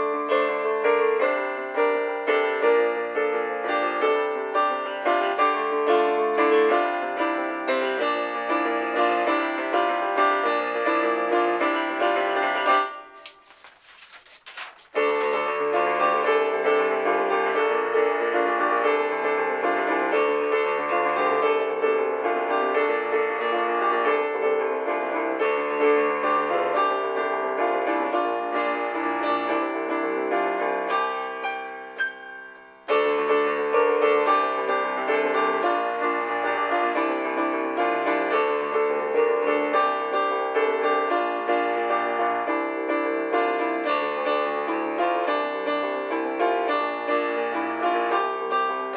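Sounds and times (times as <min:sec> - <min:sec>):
sequenced piano music: 0:00.0 - 0:48.9.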